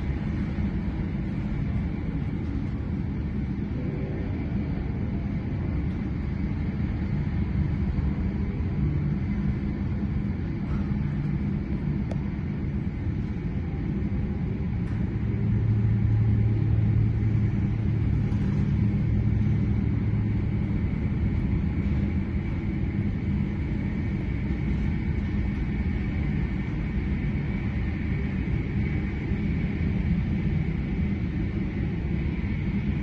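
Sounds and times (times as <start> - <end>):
high engine whine: 0.0 - 33.0
jet engine rumble: 0.0 - 33.0.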